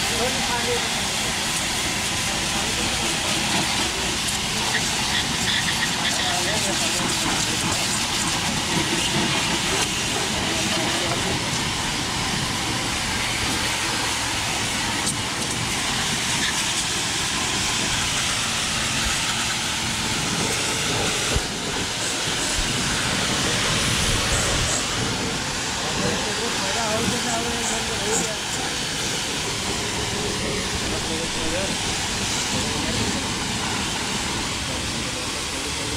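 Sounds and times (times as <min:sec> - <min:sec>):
pressure washer spraying metal: 0:00.0 - 0:35.9.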